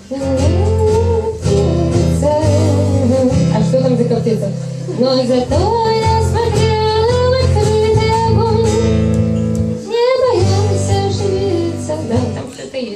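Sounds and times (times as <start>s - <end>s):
woman singing: 0.0s - 9.2s, 9.8s - 12.9s
acoustic guitar: 0.0s - 12.9s.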